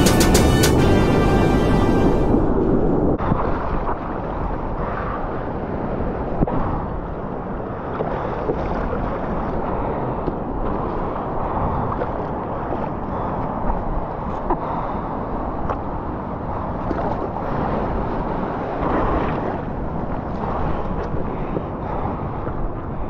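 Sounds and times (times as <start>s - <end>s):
wind buffeting microphone: 2.2s - 23.0s.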